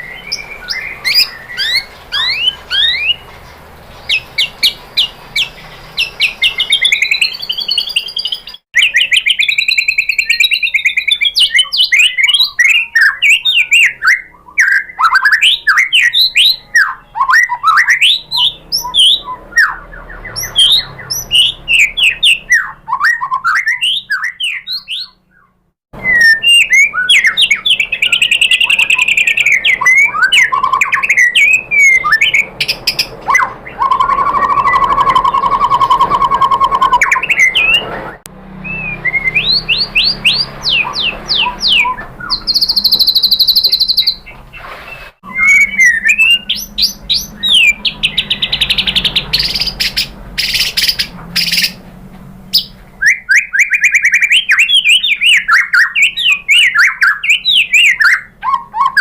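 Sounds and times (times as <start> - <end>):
bird singing chirps and trills: 0.0 - 51.8, 52.5 - 59.0.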